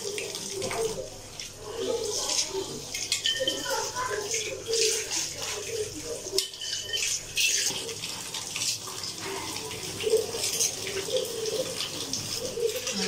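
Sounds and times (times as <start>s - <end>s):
tap water splashing into sink: 0.0s - 1.6s, 2.2s - 13.0s.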